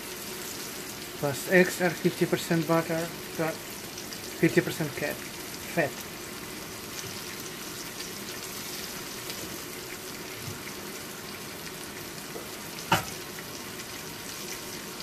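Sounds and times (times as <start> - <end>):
peppers sizzling in a frying pan: 0.0 - 15.0.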